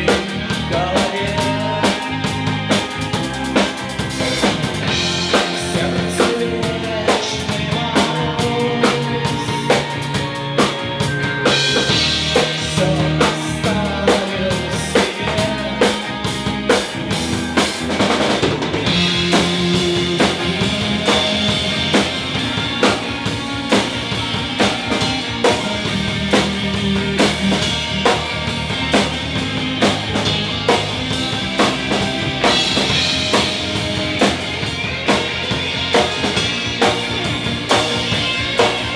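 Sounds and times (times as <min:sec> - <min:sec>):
drum kit beat: 0:00.0 - 0:38.9
live band playing: 0:00.0 - 0:38.9.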